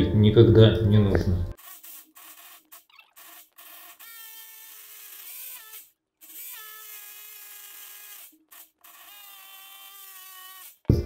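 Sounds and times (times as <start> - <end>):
rotary hammer drilling concrete: 1.6 - 10.9.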